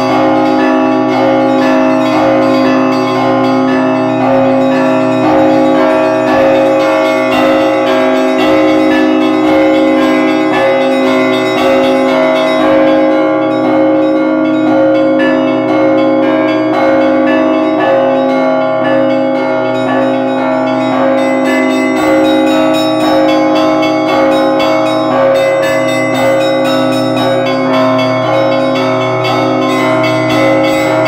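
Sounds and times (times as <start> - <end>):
large bells ringing: 0.0 - 31.0
small bells pealing rhythmically: 0.0 - 31.0.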